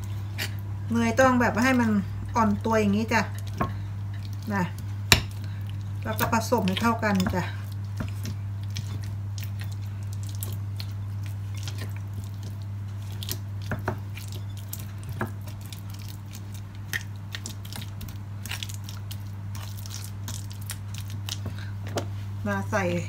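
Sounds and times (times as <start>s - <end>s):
steady low hum: 0.0s - 23.0s
fork mashing butter in bowl: 1.6s - 22.0s.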